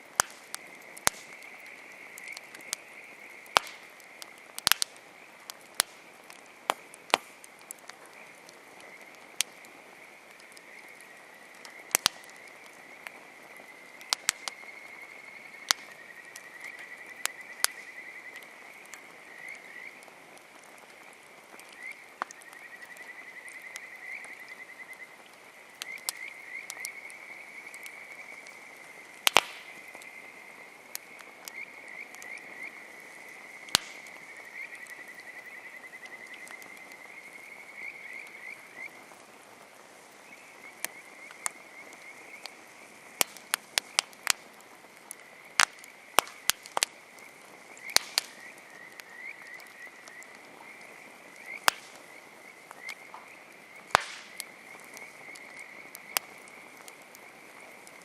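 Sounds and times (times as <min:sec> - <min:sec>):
campfire wood crackling: 0:00.0 - 0:58.0
frogs trilling: 0:00.1 - 0:58.0.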